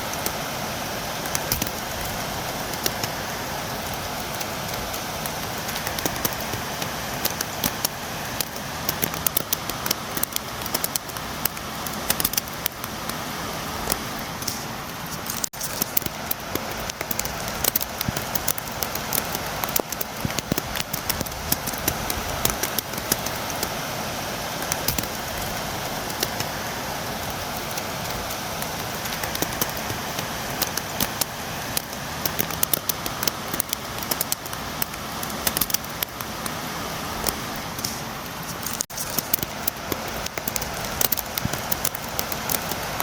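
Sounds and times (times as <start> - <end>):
steady rain falling: 0.0 - 43.0
raindrops tapping on a window: 1.1 - 43.0.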